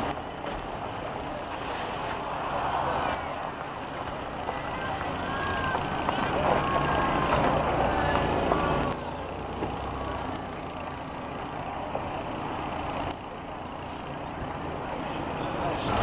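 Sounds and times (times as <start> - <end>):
bus engines running: 0.0 - 16.0.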